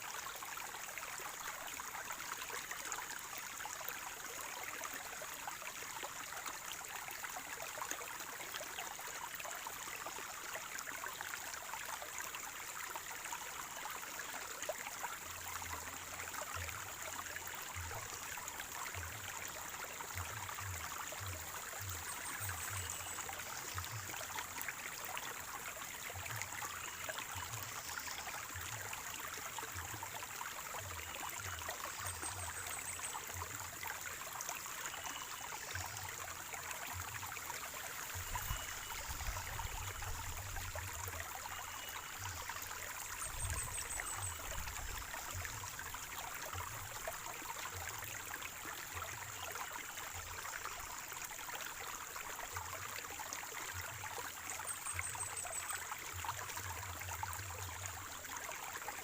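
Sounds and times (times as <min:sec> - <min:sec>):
spring water gurgling: 0:00.0 - 0:59.0.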